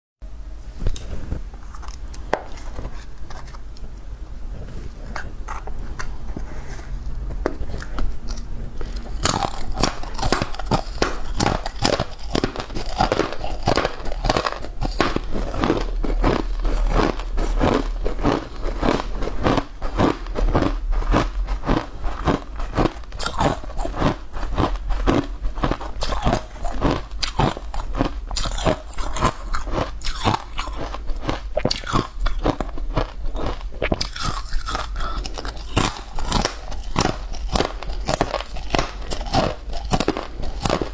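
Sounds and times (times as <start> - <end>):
biting and chewing cake: 4.7 - 40.9.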